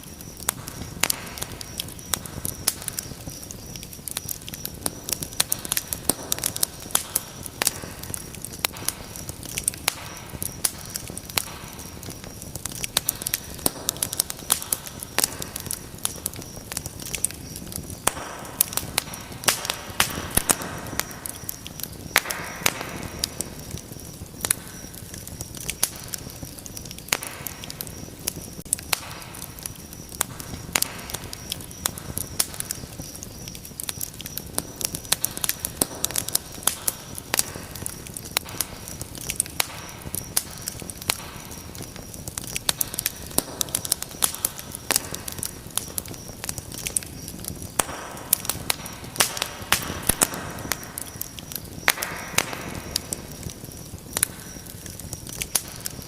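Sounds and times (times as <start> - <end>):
hiss of burning flames: 0.0 - 56.0
wood fire crackling and popping: 0.0 - 56.0.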